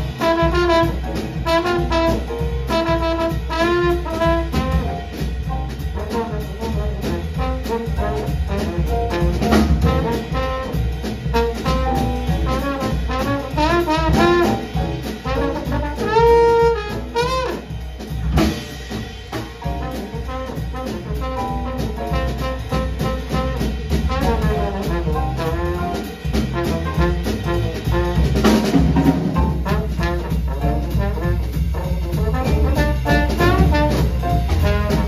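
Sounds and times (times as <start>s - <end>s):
trombone solo: 0.0s - 4.9s, 6.0s - 17.8s, 19.8s - 35.0s
jazz drums: 0.0s - 35.0s
upright bass: 0.0s - 35.0s.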